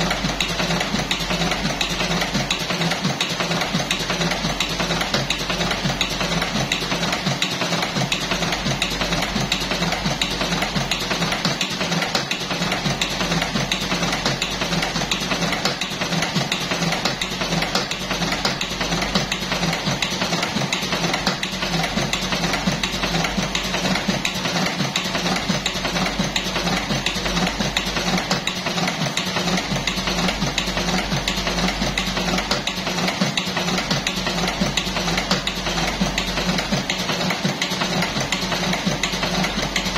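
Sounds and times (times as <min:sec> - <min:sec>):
fast mechanical clatter: 0:00.0 - 0:39.9
machine motor hum: 0:00.0 - 0:39.9.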